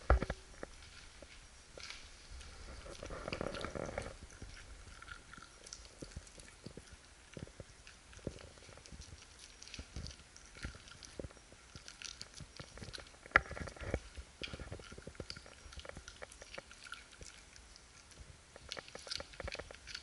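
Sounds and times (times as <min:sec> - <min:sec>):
dog licking and chewing: 0:00.1 - 0:20.0.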